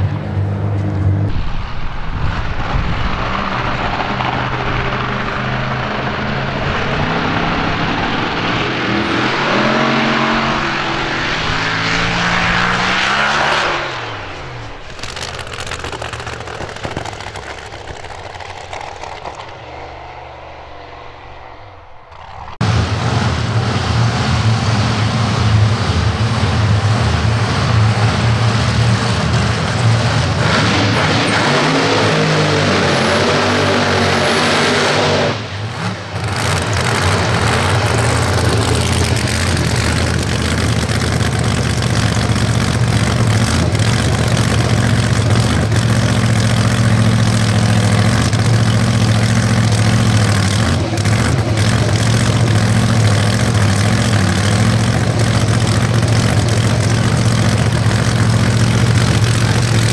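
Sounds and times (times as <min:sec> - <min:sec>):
drag car engine accelerating: 0:00.0 - 0:59.9
engine running low drone: 0:00.0 - 0:59.9.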